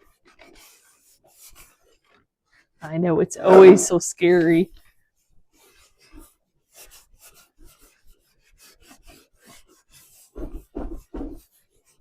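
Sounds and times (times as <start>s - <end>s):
wax rubbed onto wood: 0.0s - 4.0s, 5.2s - 12.0s.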